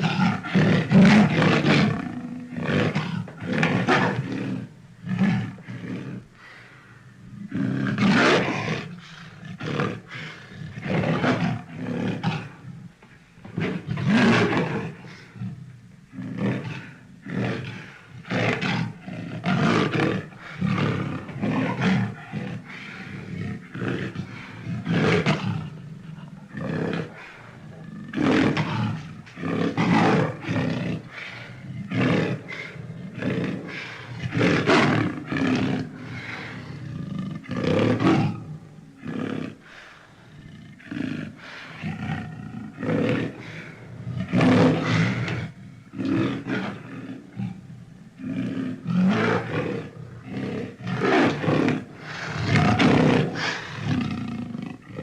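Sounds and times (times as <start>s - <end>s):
big cat roaring: 0.0s - 6.2s, 7.3s - 12.9s, 13.5s - 55.0s.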